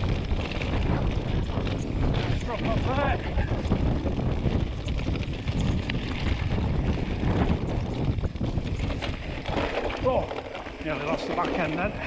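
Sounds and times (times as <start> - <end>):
bike rattling with knocks: 0.0 - 12.0
tyres crunching over stones: 0.0 - 12.0
wind buffeting microphone: 0.0 - 12.0.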